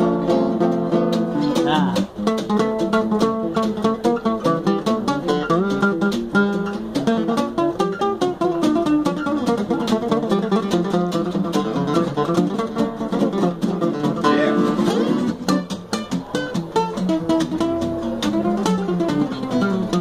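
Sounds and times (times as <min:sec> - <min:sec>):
acoustic guitar jazz tune: 0:00.0 - 0:20.0.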